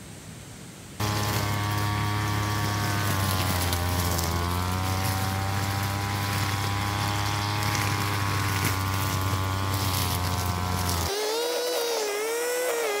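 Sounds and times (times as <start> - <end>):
brush cutter engine cutting grass: 1.0 - 13.0.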